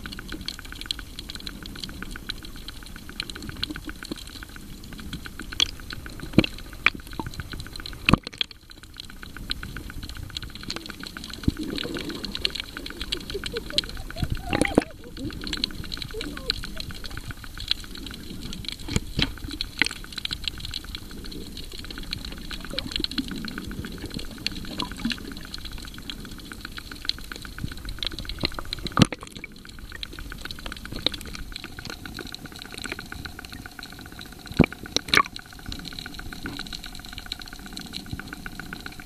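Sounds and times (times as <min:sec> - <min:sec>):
small clicks and crackles: 0:00.0 - 0:39.0
water sloshing and bubbling: 0:00.0 - 0:39.0.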